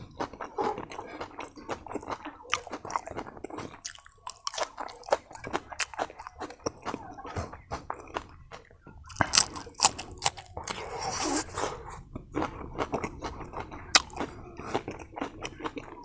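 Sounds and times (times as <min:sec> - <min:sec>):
open-mouthed chewing: 0:00.0 - 0:16.0.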